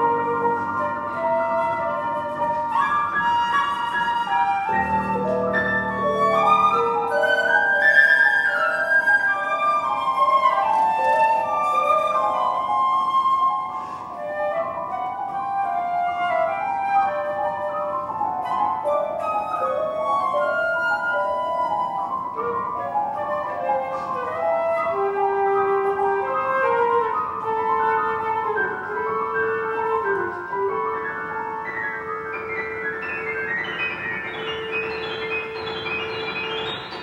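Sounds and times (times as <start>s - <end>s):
flute playing quick runs: 0.0s - 37.0s
grand piano accompaniment: 0.0s - 37.0s.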